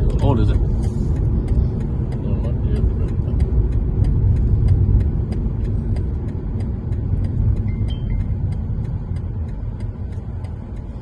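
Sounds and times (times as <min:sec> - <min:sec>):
car engine and tyre rumble: 0:00.0 - 0:11.0
faint regular ticking: 0:00.0 - 0:11.0.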